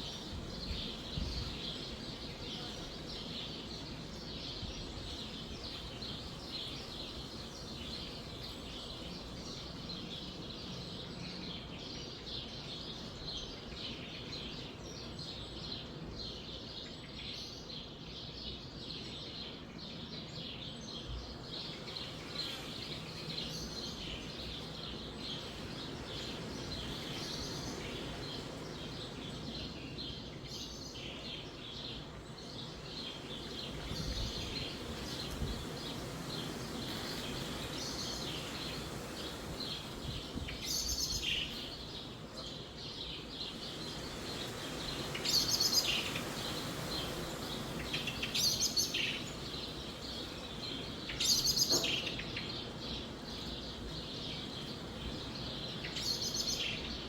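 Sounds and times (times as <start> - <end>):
small birds chirping: 0.0 - 57.0
wind through trees: 0.0 - 57.0.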